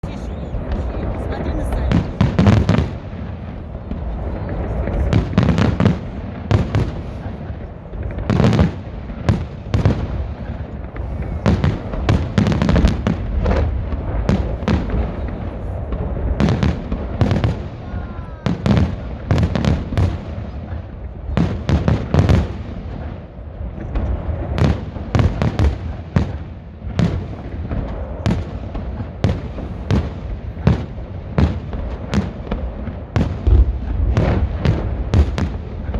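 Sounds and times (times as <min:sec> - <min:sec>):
continuous low rumble: 0:00.0 - 0:35.9
fireworks bangs: 0:00.0 - 0:35.9.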